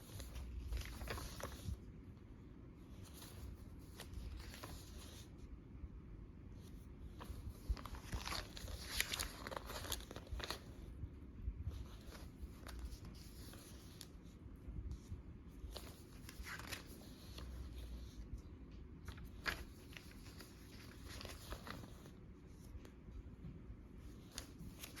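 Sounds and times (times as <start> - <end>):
paper pages rustling: 0.0 - 1.9, 2.8 - 5.4, 6.6 - 10.9, 11.7 - 23.0, 23.9 - 25.0.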